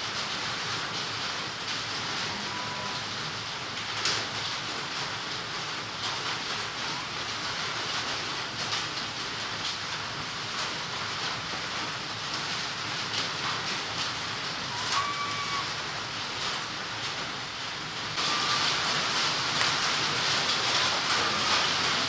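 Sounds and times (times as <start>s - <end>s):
light rain on leaves: 0.0s - 22.0s.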